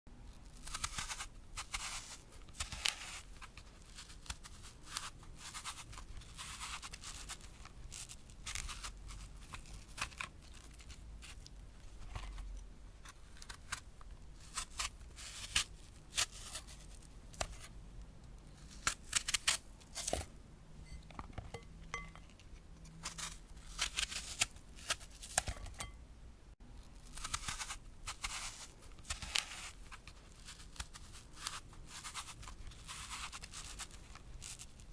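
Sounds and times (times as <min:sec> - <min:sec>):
knife cutting crisp apple: 0:00.5 - 0:17.7, 0:18.5 - 0:20.3, 0:22.8 - 0:26.0, 0:27.0 - 0:34.9.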